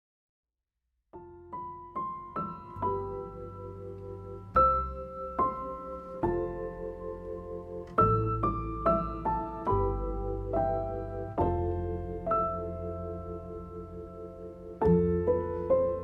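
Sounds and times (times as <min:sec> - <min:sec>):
slow piano music: 0:01.2 - 0:16.0.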